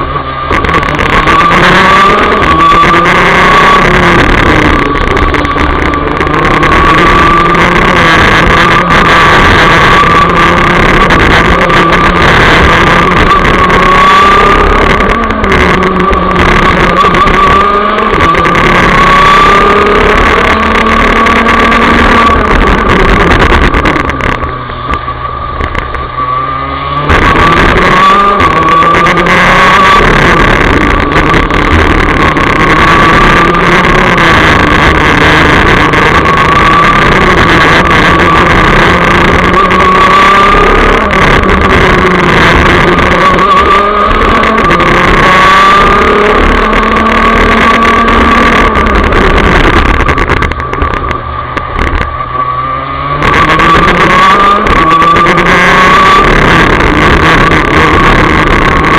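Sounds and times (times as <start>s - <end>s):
kart engine revving: 0.0s - 58.9s.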